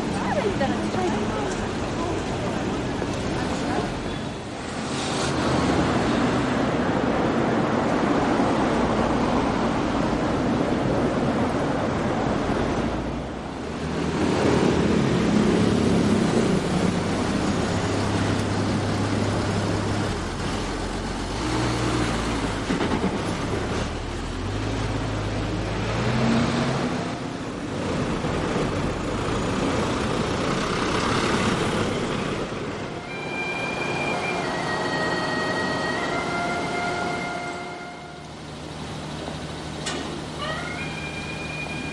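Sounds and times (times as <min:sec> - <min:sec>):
large vehicle engines passing: 0:00.0 - 0:41.9
road noise rumble: 0:00.0 - 0:41.9.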